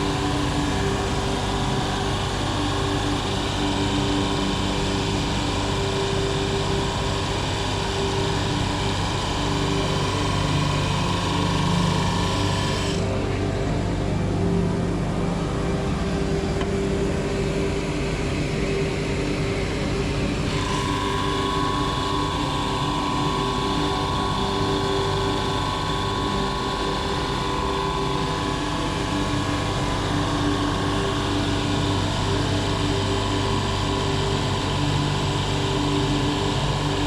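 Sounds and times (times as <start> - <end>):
power tool hum: 0.0 - 13.2, 20.4 - 37.0
high machine whine: 0.0 - 37.0.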